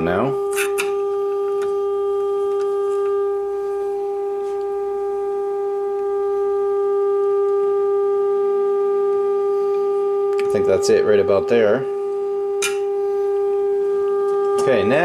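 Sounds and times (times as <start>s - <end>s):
test tone through radio speaker: 0.0s - 15.0s.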